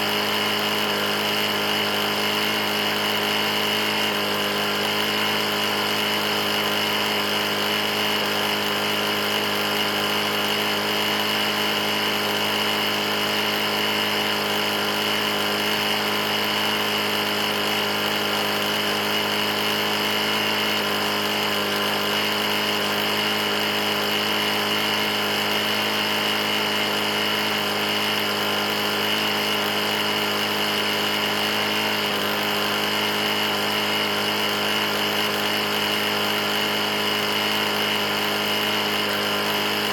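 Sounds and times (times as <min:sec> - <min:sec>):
lawn mower engine knocking: 0:00.0 - 0:39.9.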